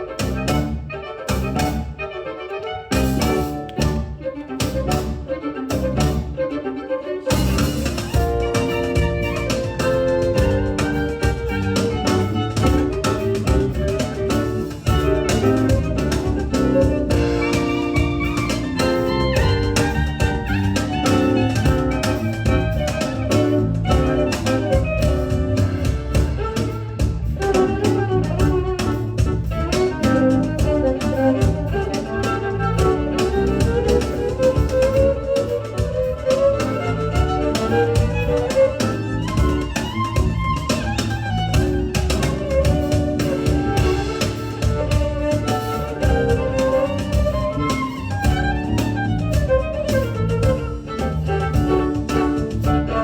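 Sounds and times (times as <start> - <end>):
percussion beat: 0.0 - 2.0, 2.9 - 6.4, 7.3 - 53.0
bowed violin melody: 0.0 - 53.0.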